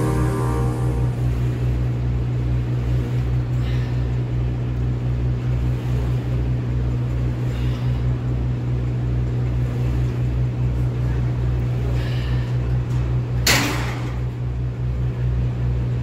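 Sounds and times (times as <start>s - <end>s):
throbbing machine hum: 0.0s - 16.0s.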